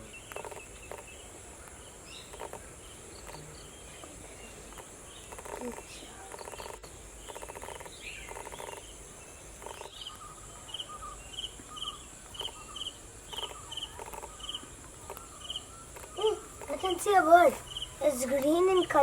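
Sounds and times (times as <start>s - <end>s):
bird calls: 0.0s - 19.0s
insects droning: 0.0s - 19.0s.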